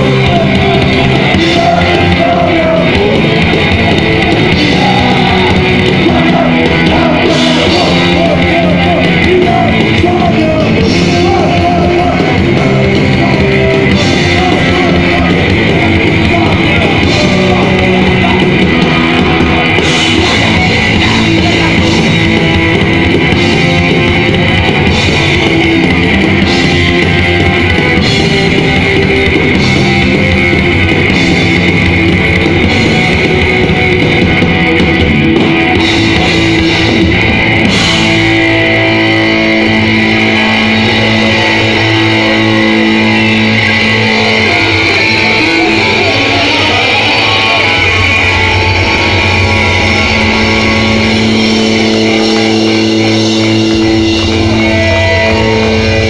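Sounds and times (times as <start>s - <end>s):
live punk rock band: 0.0s - 56.0s.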